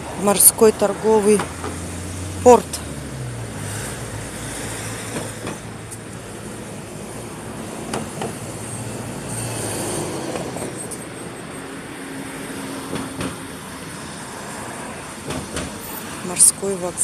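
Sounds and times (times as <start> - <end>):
vehicle traffic rumble: 0.0 - 17.0.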